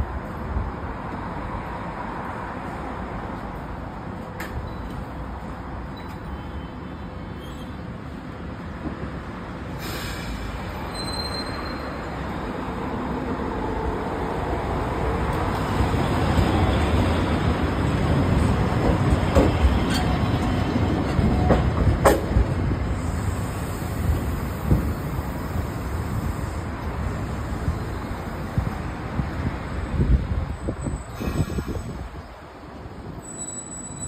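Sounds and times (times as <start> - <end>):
tram rumbling on rails: 0.0 - 34.0.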